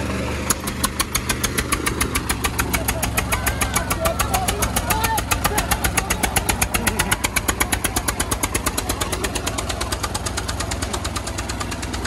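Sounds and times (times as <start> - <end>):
second tractor engine running: 0.0 - 12.0
tractor engine chugging: 0.0 - 12.0.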